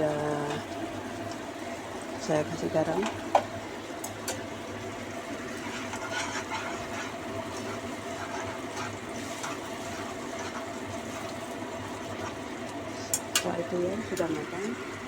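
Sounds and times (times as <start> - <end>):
tomato sauce bubbling in a pan: 0.0 - 15.0.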